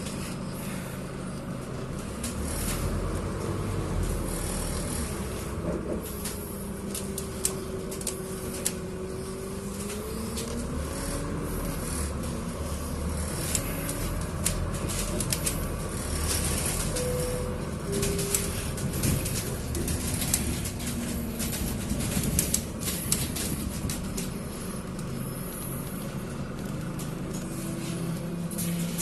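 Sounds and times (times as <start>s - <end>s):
bus engine rumble and whine: 0.0s - 29.0s
bus interior clicks and rattles: 0.0s - 29.0s.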